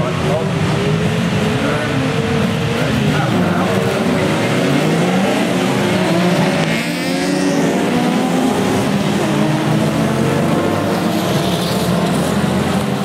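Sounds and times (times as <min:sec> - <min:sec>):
racing cars accelerating: 0:00.0 - 0:13.0.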